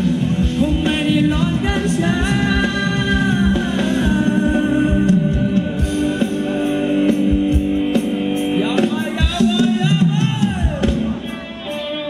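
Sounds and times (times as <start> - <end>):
steady drum beat: 0.0 - 11.9
live band dance music: 0.0 - 12.0.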